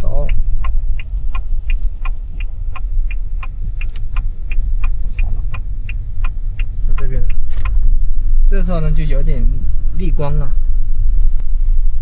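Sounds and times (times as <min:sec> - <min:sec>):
car engine and tyres rumbling: 0:00.0 - 0:12.0
turn signal ticking: 0:00.0 - 0:12.0.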